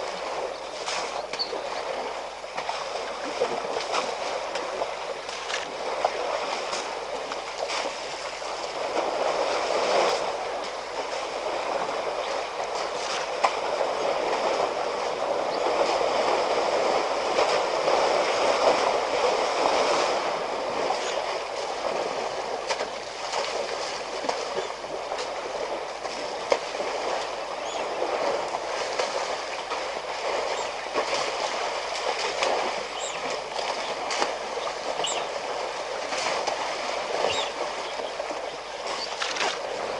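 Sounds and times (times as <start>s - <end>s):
water and mud sloshing: 0.0s - 39.9s.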